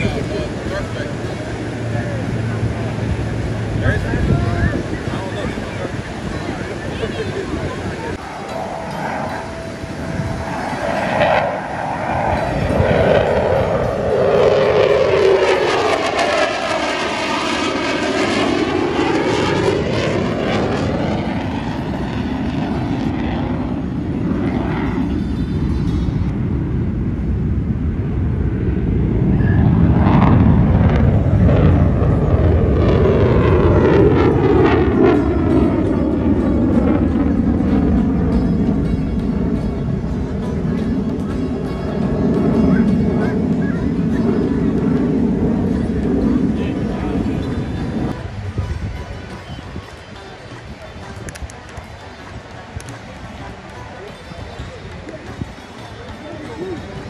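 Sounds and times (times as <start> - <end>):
fighter jet flying past: 0.0 - 50.6.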